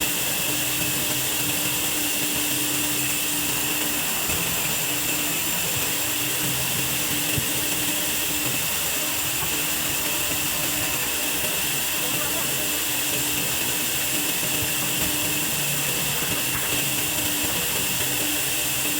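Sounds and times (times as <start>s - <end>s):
band saw cutting log: 0.0s - 18.9s.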